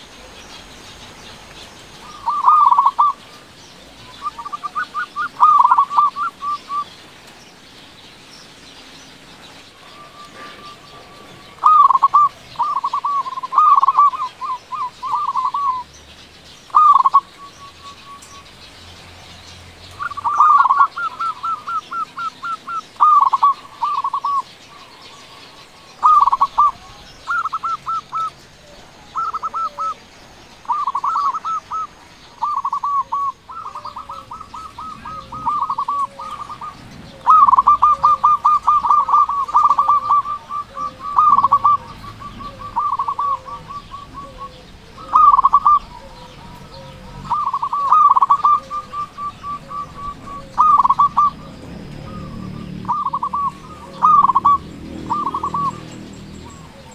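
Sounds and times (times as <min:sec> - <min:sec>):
dove cooing: 0:00.0 - 0:07.2, 0:09.2 - 0:16.0, 0:16.7 - 0:18.5, 0:19.9 - 0:56.9.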